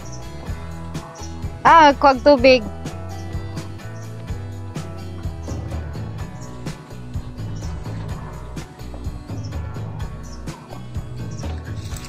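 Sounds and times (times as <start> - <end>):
background music with beat: 0.0 - 12.0
bass line: 0.0 - 12.0.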